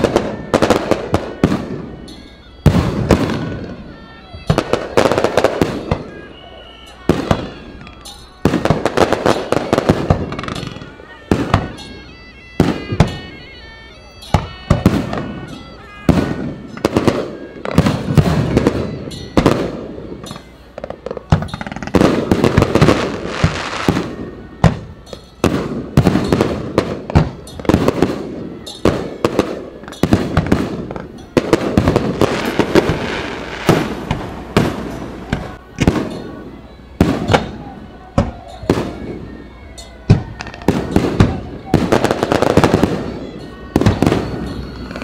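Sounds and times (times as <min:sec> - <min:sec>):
fireworks bangs: 0:00.0 - 0:13.4, 0:14.2 - 0:45.0.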